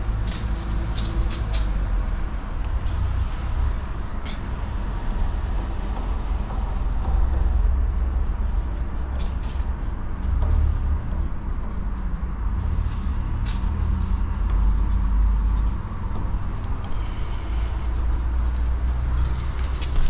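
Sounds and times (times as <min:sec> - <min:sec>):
low engine-like rumble: 0:00.0 - 0:20.0
spray-paint cans hissing: 0:00.1 - 0:20.0.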